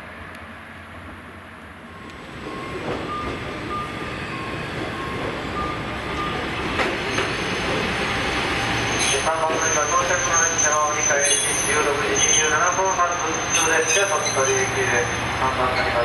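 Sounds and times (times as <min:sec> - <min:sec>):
railcar engine and wheels: 0:00.0 - 0:16.0.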